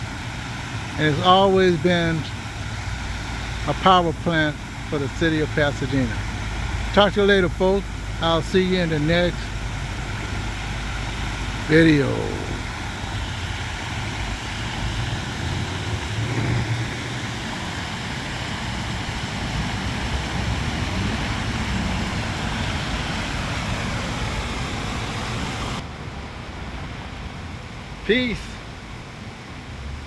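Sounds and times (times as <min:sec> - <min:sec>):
car engine drone: 0:00.0 - 0:26.4
road noise hiss: 0:00.0 - 0:30.0.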